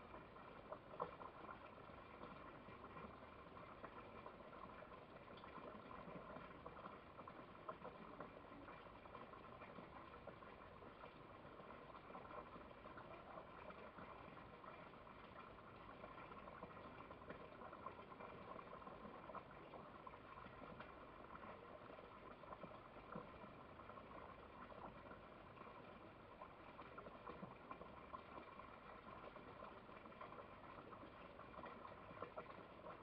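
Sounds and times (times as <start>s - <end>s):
faint crackling noise: 0.0s - 33.0s.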